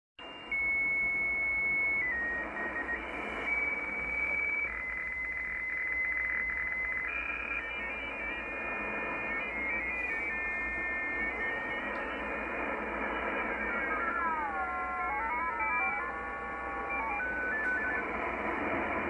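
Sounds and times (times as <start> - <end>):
digital radio tones: 0.2 - 19.0
static hiss: 0.3 - 19.0.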